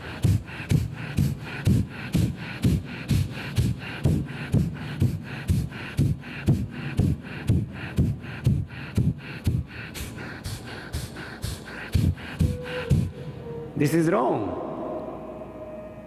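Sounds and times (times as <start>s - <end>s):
forceful nasal exhalations: 0.0s - 13.4s.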